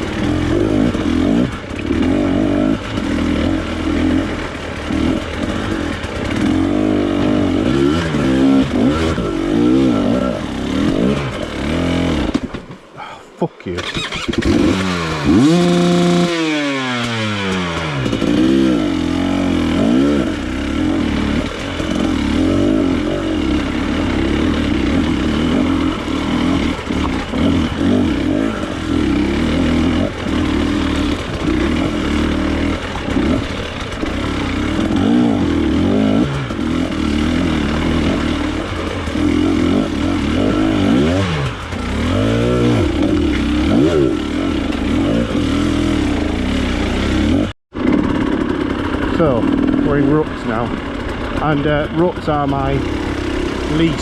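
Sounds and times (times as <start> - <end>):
motorcycle engine revving: 0.0 - 13.1, 13.7 - 54.0.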